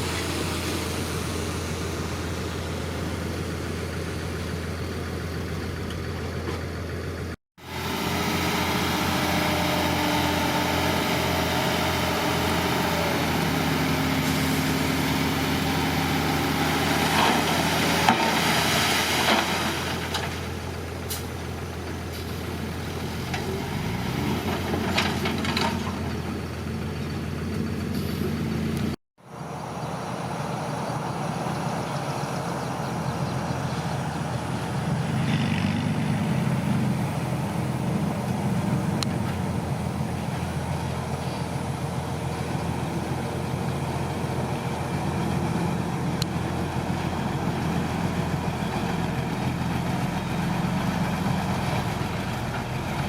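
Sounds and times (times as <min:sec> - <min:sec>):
diesel earthmoving machinery running: 0:00.0 - 0:53.0.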